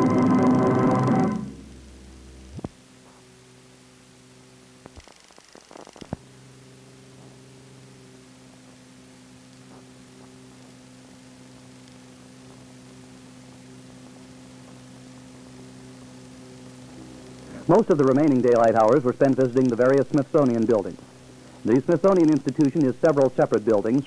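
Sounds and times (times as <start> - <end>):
electrical mains hum: 0.0 - 24.0
low hiss: 0.0 - 24.0.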